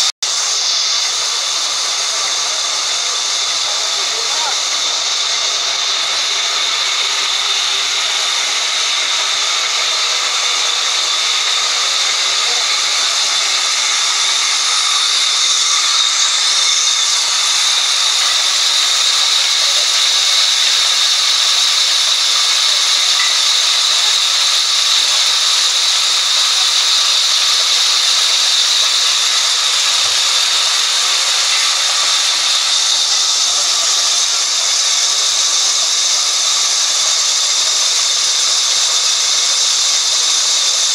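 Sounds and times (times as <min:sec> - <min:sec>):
band saw cutting through log: 0:00.0 - 0:40.9.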